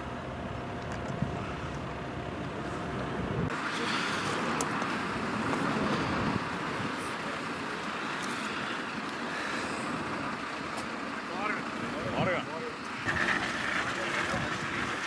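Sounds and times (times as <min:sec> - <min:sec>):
motorway traffic rushing hum: 0:00.0 - 0:15.0.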